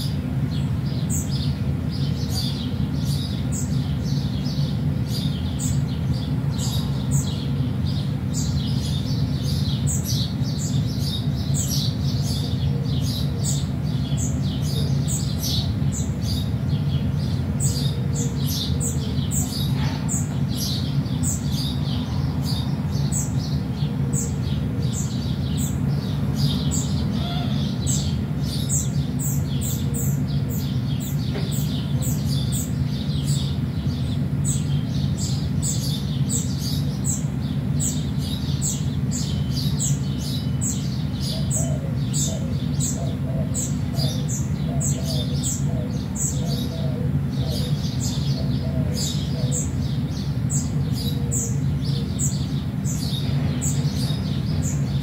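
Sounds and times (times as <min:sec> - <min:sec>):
small birds chirping: 0:00.0 - 0:55.0
steady low hum: 0:00.0 - 0:55.0.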